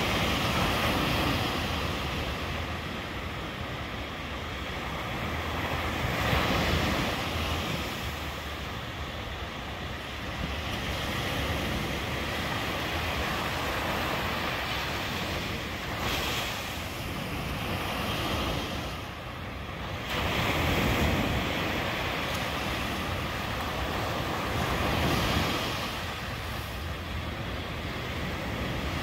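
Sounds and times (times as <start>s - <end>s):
waves breaking on sand: 0.0s - 29.0s.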